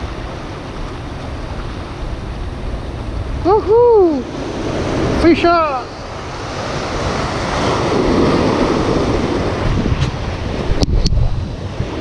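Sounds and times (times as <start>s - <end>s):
waves breaking over rocks: 0.0s - 12.0s
wind buffeting microphone: 0.0s - 12.0s.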